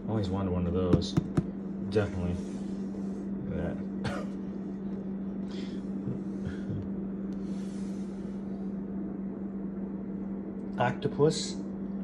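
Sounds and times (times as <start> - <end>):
appliance humming and hissing: 0.0 - 12.0.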